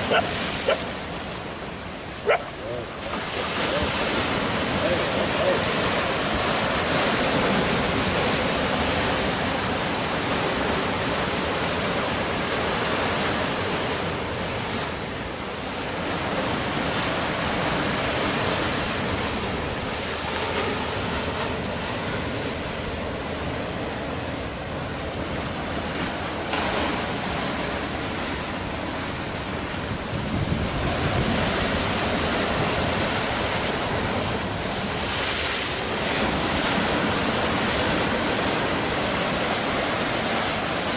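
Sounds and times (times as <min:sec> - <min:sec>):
surf breaking over rocks: 0:00.0 - 0:40.9.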